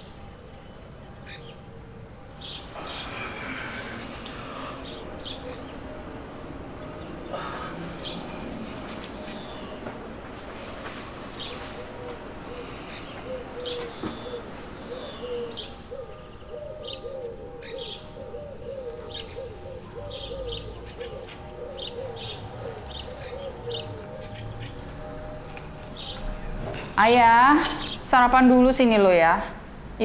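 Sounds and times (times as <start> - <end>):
small birds chirping: 2.3 - 28.4
dove cooing: 2.4 - 27.0.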